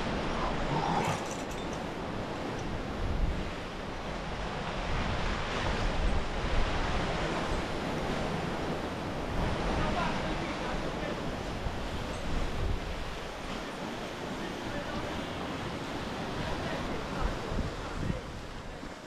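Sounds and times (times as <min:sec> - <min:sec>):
wind gusts on microphone: 0:00.0 - 0:19.0.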